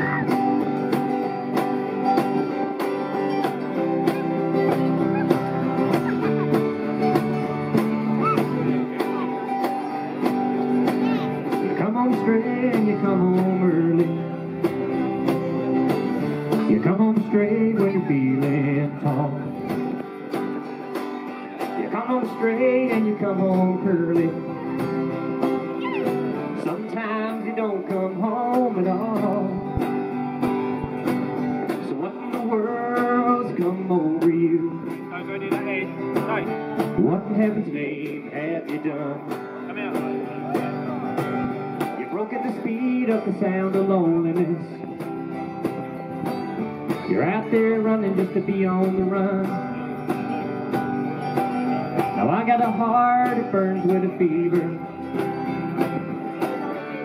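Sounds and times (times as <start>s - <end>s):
acoustic country band playing: 0.0s - 57.0s
mandolin: 0.0s - 57.0s
man singing: 3.8s - 20.1s, 21.3s - 30.1s, 31.7s - 45.4s, 46.8s - 57.0s.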